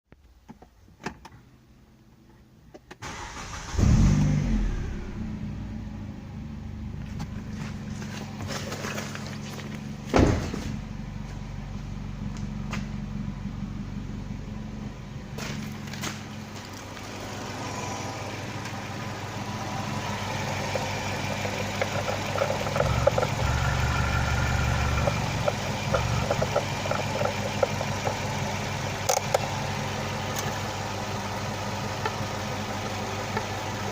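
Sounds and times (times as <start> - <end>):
car engine starting and idling: 2.8 - 33.9.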